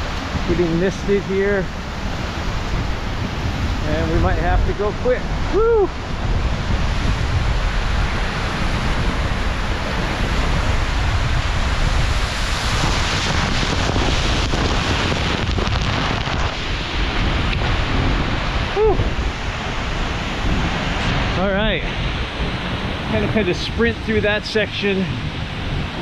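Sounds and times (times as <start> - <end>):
waterfall rushing: 0.0 - 26.0
wind buffeting microphone: 0.0 - 26.0.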